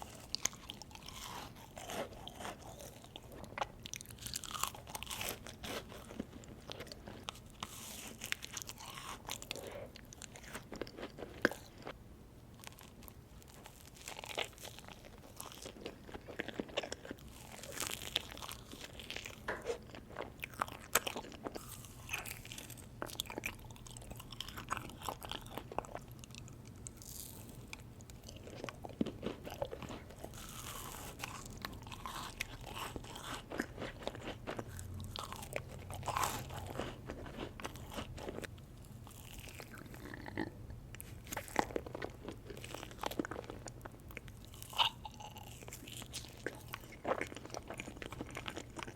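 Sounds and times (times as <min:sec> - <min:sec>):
crunchy bites and chewing: 0:00.0 - 0:12.0, 0:12.6 - 0:48.9.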